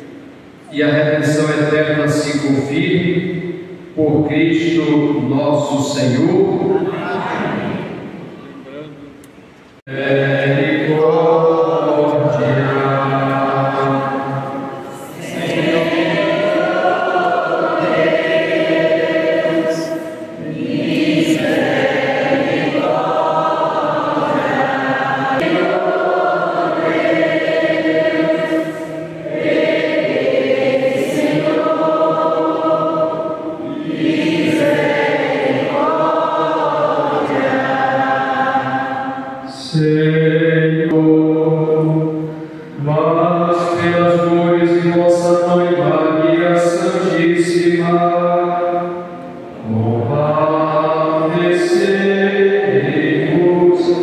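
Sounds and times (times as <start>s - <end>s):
choir singing a hymn: 0.0s - 8.5s, 9.9s - 54.0s.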